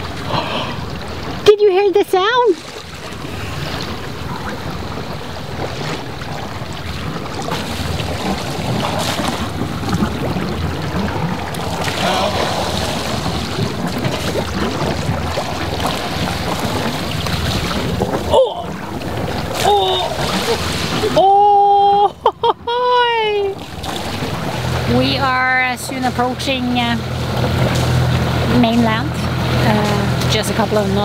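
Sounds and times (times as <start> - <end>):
sea water washing past boat: 0.0 - 31.0.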